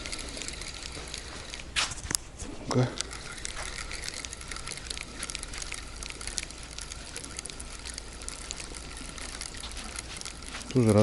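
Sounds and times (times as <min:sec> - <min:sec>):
water splashing and ticking: 0:00.0 - 0:01.8, 0:02.7 - 0:11.0.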